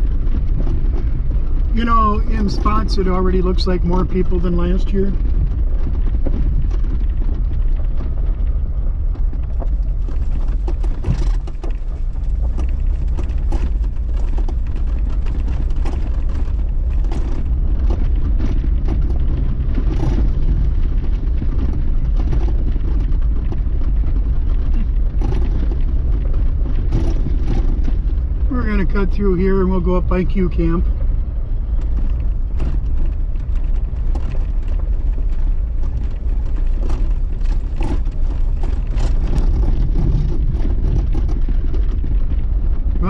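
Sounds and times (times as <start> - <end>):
car engine and road rumble: 0.0 - 43.0
light clicks and rattles: 0.0 - 43.0.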